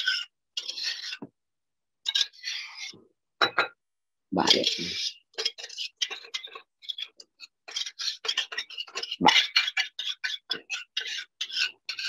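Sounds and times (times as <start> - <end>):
utensil stirring in a bowl: 0.0 - 1.3, 2.0 - 3.7, 4.4 - 12.0.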